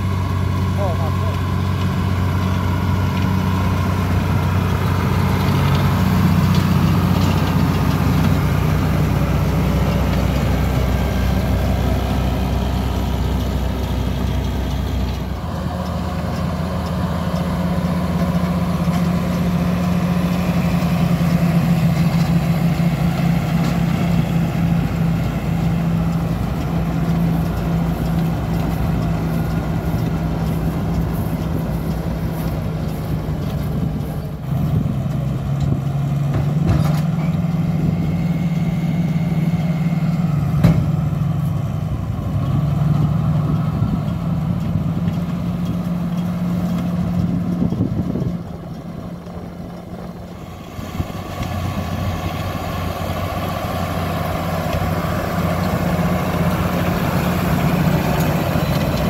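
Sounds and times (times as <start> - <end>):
round baler baling: 0.0 - 59.0
tractor diesel engine under load: 0.0 - 59.0.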